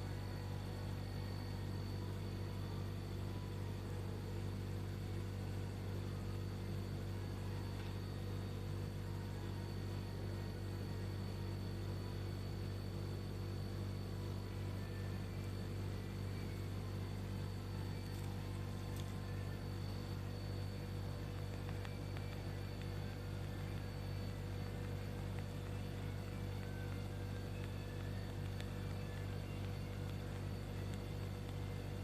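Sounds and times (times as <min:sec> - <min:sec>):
faint high whine: 0:00.0 - 0:32.0
low machine hum: 0:00.0 - 0:32.0.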